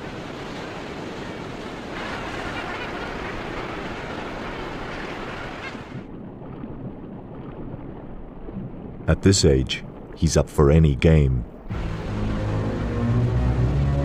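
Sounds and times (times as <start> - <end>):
sea water rushing: 0.0 - 14.0.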